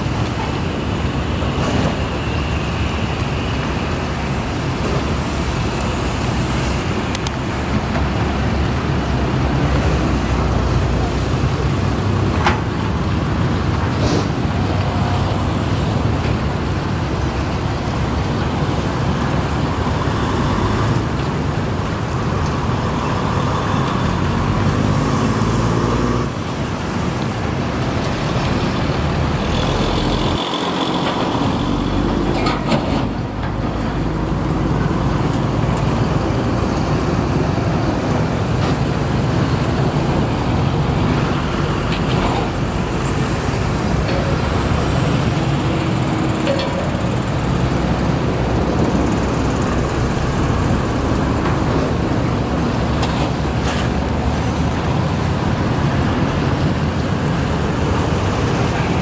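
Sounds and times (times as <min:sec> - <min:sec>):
excavator diesel engine: 0:00.0 - 0:59.0
road traffic: 0:00.0 - 0:59.0.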